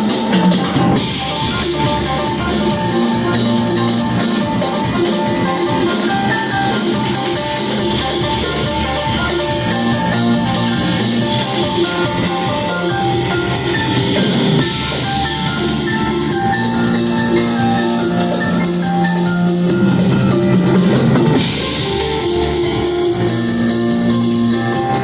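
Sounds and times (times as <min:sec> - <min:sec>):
electric guitar line: 0:00.0 - 0:25.0
live band playing: 0:00.0 - 0:25.0.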